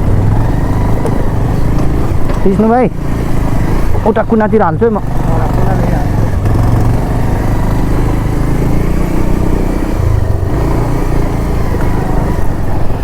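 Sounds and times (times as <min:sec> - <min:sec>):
motorcycle engine under load: 0:00.0 - 0:13.0.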